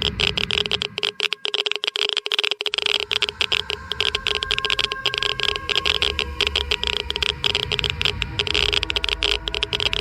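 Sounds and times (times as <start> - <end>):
faint steady whine: 0.0 - 10.0
geiger counter clicking rapidly: 0.0 - 10.0.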